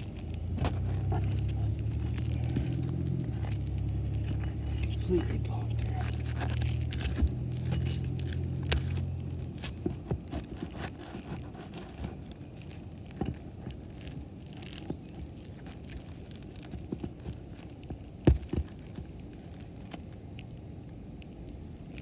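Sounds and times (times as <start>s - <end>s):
metal tool scraping under shingles: 0.0s - 17.7s
low steady hum: 0.0s - 22.0s.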